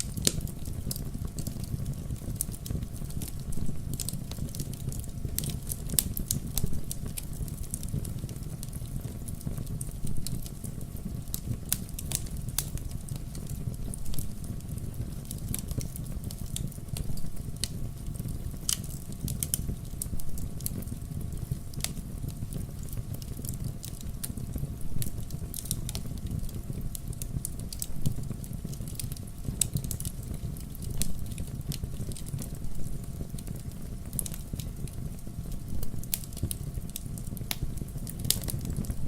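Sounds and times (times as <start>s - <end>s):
low rumble of flames: 0.0s - 39.0s
wood fire crackling and popping: 0.0s - 39.0s.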